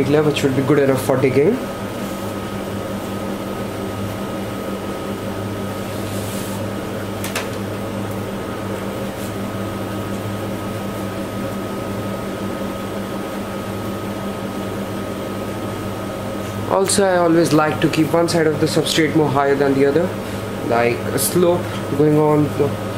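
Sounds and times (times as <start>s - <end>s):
low electrical hum: 0.0s - 22.9s.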